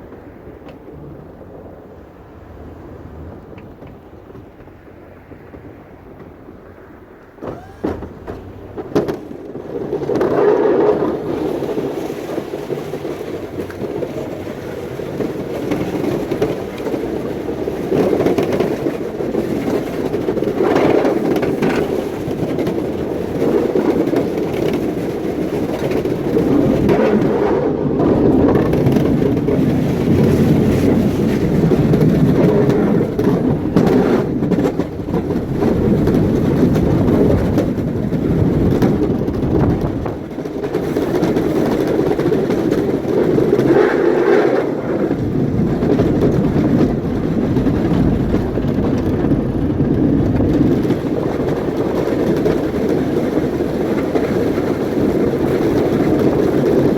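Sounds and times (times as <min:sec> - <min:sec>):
snow-clearing machine engine running: 0:07.4 - 0:56.9.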